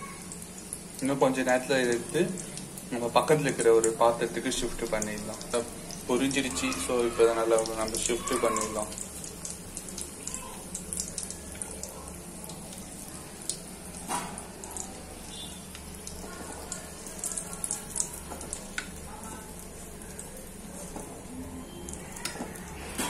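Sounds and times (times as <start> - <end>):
meatballs sizzling in hot oil: 0.0 - 23.0.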